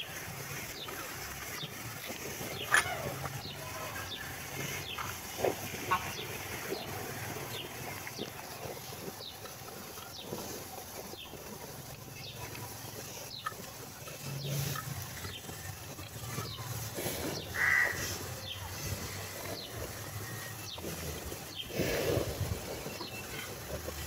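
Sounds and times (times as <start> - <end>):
cattle munching fodder: 0.0 - 24.0
rustle of fodder: 0.0 - 24.0.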